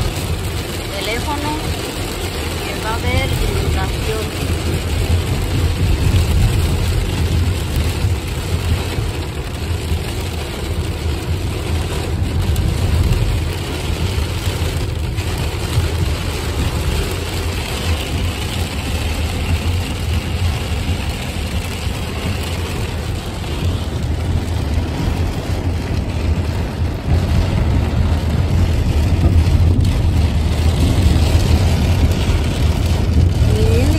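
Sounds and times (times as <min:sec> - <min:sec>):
car driving on wet road: 0:00.0 - 0:33.9
heavy rain drumming on car: 0:00.0 - 0:33.9.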